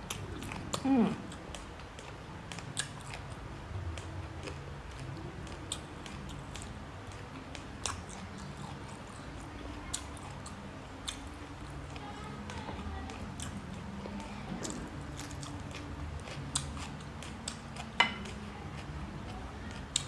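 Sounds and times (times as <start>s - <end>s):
chewing with crunches: 0.0s - 20.0s
low steady hum: 0.0s - 20.0s.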